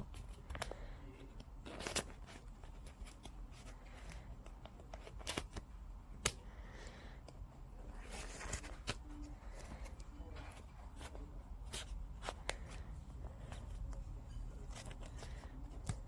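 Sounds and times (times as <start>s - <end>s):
low background hum: 0.0s - 16.0s
rustling handling noises: 0.0s - 16.0s.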